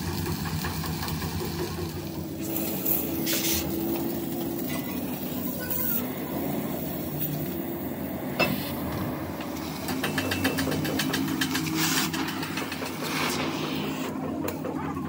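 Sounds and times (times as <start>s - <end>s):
cutting torch hissing: 0.0s - 14.8s
low machine hum: 0.0s - 15.0s.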